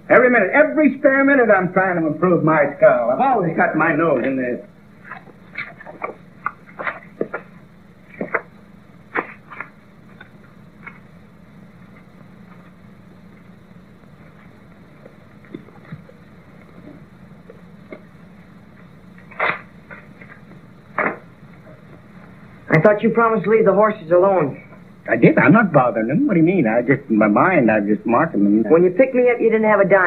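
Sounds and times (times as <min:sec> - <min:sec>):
film soundtrack hum and hiss: 0:00.0 - 0:30.0.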